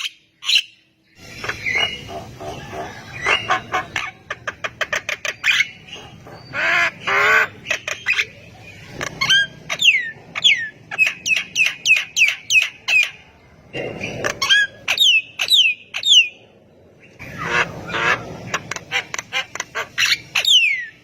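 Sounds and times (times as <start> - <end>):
bird singing: 0.0 - 18.8, 20.0 - 21.0.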